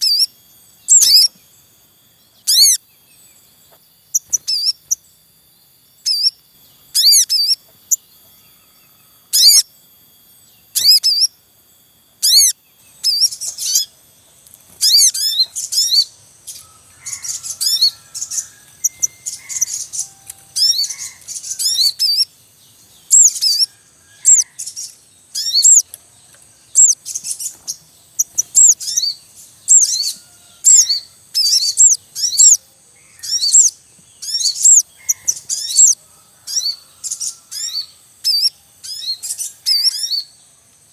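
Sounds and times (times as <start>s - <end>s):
birds chirping: 0.0s - 40.9s
faint steady high whine: 0.0s - 40.9s.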